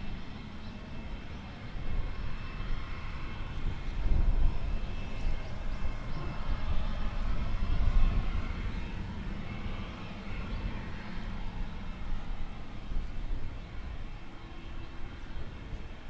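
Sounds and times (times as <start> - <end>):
jet engine turbine whine: 0.0 - 16.0
low engine rumble: 0.0 - 16.0.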